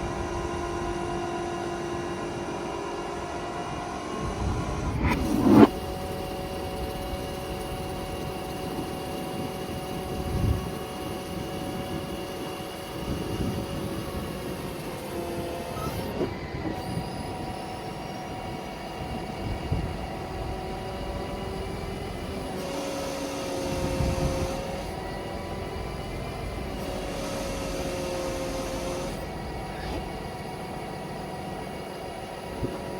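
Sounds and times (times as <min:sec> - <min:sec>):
steady whine: 0:00.0 - 0:32.9
diesel engine running: 0:04.2 - 0:32.9.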